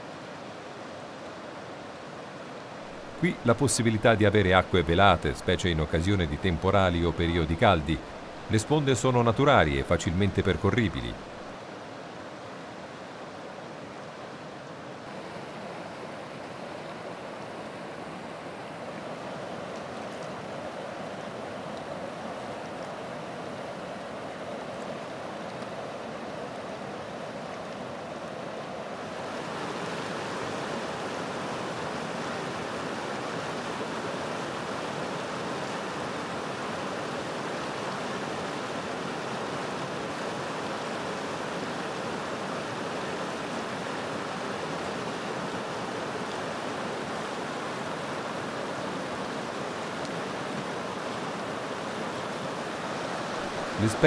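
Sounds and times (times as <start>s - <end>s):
river rushing over boulders: 0.0s - 54.0s.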